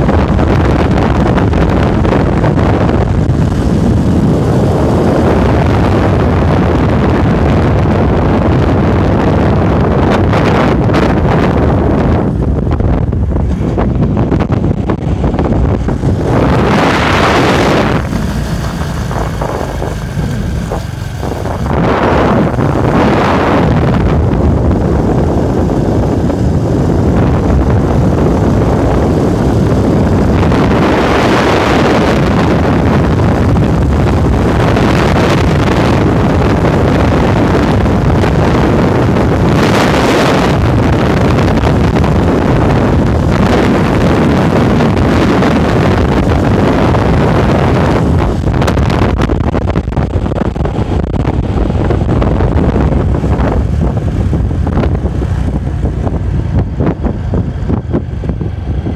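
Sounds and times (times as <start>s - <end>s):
motorbike engine and road noise: 0.0s - 58.9s
wind rushing over microphone: 0.0s - 58.9s.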